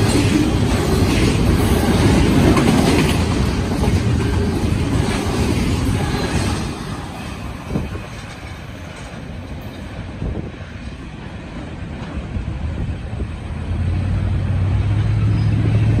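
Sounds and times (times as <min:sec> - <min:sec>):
train cars rumbling on rails: 0:00.0 - 0:16.0.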